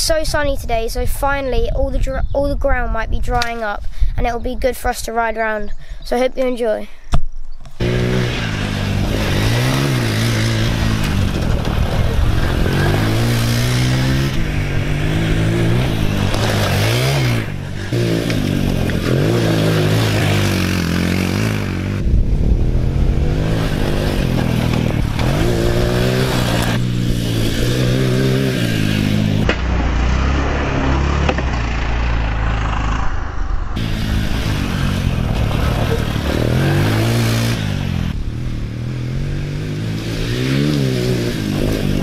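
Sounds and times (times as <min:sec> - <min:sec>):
quad bike engine revving: 0:07.8 - 0:42.0.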